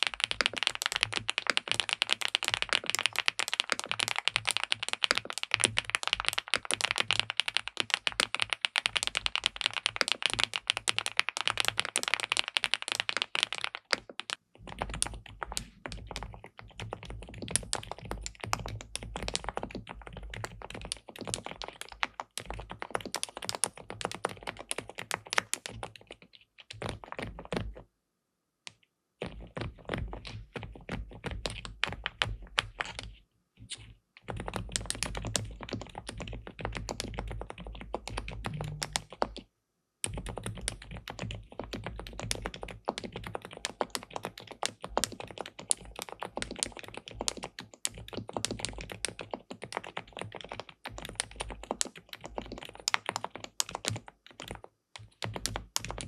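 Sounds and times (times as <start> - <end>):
mechanical keyboard typing: 0.0 - 27.8, 29.2 - 33.2, 34.2 - 56.0.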